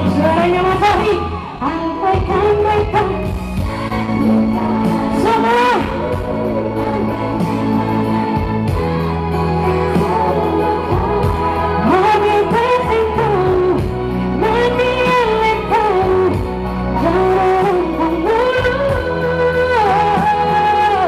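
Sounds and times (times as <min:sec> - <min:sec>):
amplified backing music: 0:00.0 - 0:21.0
woman singing pop song: 0:00.0 - 0:21.0.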